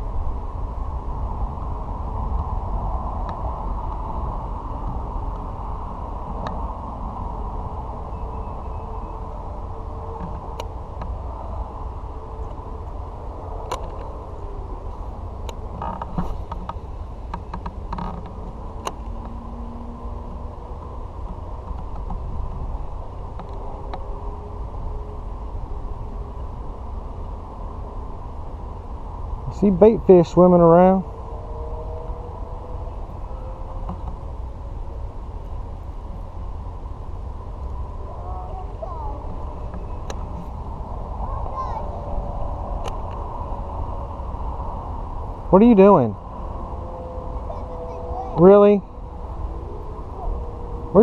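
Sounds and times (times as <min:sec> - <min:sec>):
low rumbling noise: 0:00.0 - 0:51.0.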